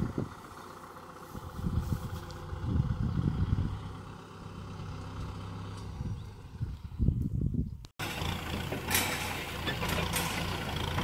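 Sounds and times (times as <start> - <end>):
tractor diesel engine running: 0.0 - 7.3, 8.0 - 11.0
low buffeting: 0.0 - 11.0.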